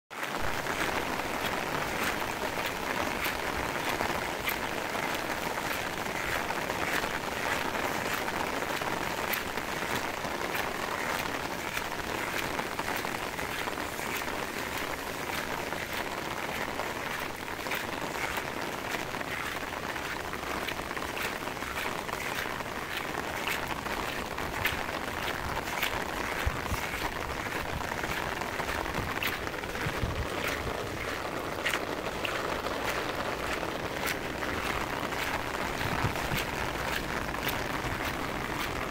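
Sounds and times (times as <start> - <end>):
rain on a paved street: 0.1 - 38.9
sharp raindrop ticks: 0.2 - 38.9.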